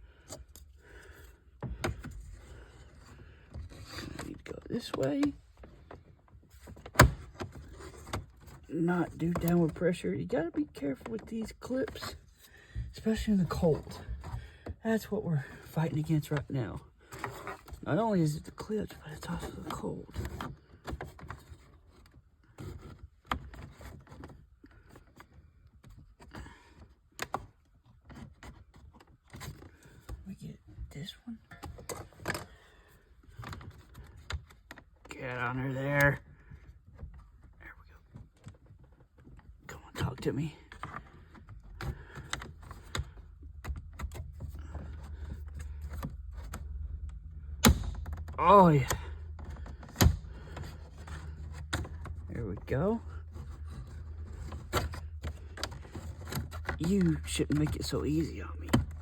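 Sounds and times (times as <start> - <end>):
plastic scraping against plastic: 0.1 - 59.0.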